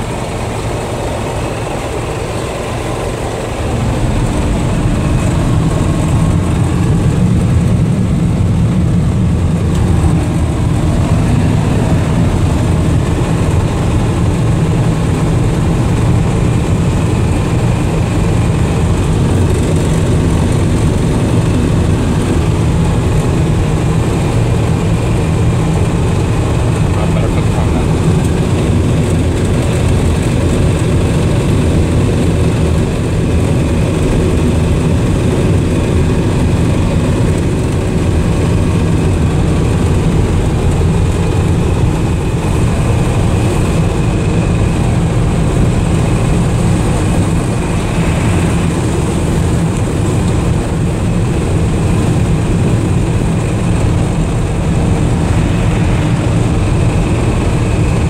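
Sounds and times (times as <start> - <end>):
truck engine drone from cab: 0.0 - 58.0.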